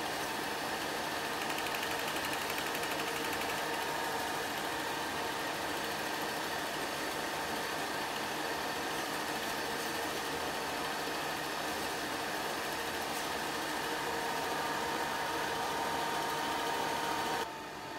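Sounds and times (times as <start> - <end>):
film projector whirring: 0.0 - 17.9.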